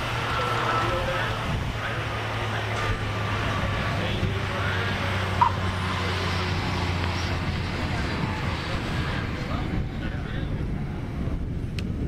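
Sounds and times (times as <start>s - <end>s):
faint crowd voices: 0.0s - 12.0s
propeller plane engine droning: 0.0s - 12.0s.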